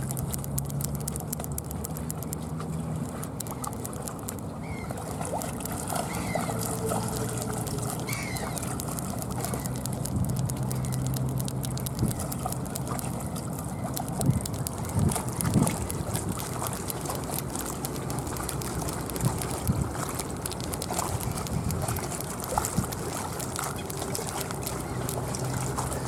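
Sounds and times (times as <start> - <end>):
river water lapping at shore: 0.0 - 26.0.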